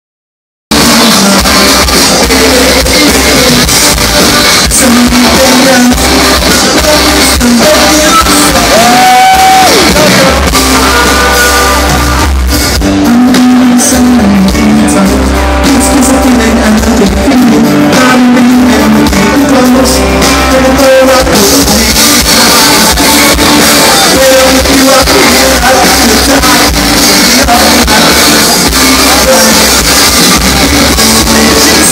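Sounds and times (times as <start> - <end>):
live band playing: 0.7 - 31.9
person singing: 0.7 - 31.9.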